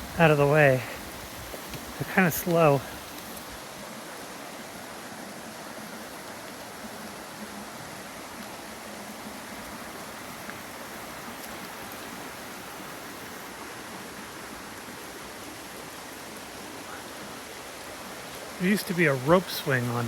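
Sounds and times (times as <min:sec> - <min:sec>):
flowing creek rushing: 0:00.0 - 0:20.0.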